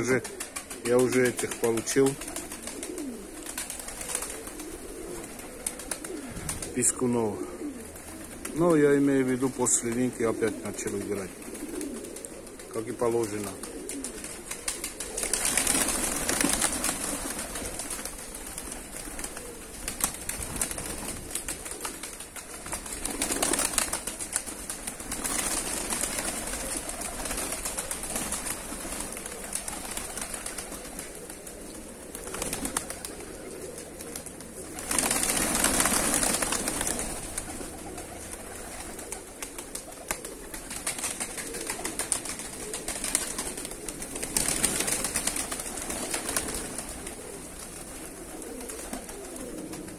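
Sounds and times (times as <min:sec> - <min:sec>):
pigeons flapping and clapping wings: 0:00.0 - 0:49.9.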